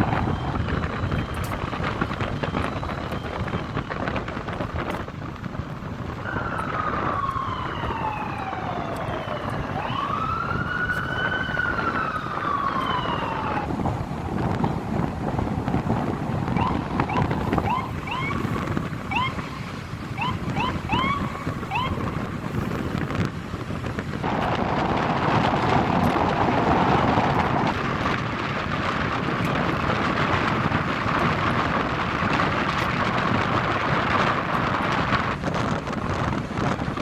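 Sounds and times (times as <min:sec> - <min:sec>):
street noise rumble: 0:00.0 - 0:37.0
wind buffeting microphone: 0:00.0 - 0:37.0.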